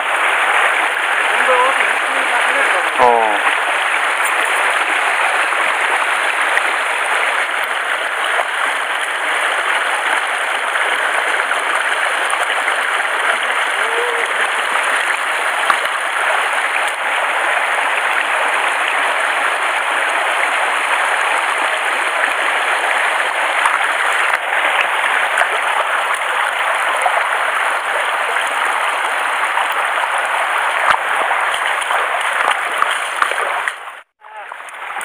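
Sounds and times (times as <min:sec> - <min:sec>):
stream running over rocks: 0:00.0 - 0:35.0.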